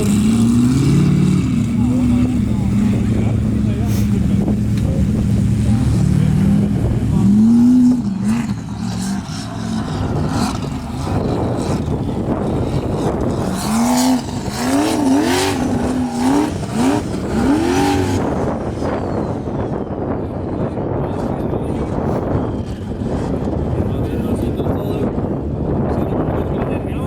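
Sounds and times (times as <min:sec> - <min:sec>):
buggy engine revving: 0:00.0 - 0:27.0.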